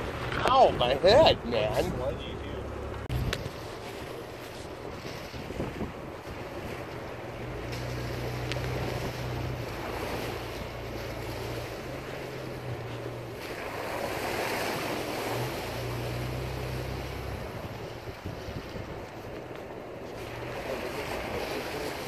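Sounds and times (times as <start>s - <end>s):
vehicle engine low drone: 0.0s - 22.0s
wind and tyre noise: 0.0s - 22.0s.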